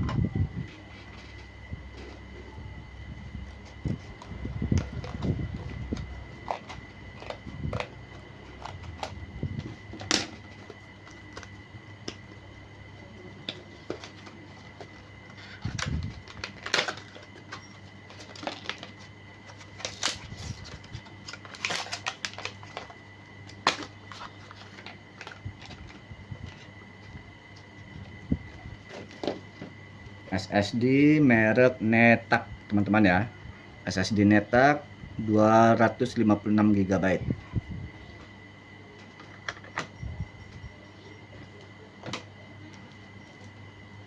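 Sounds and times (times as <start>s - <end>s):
faint high whine: 0.0s - 44.0s.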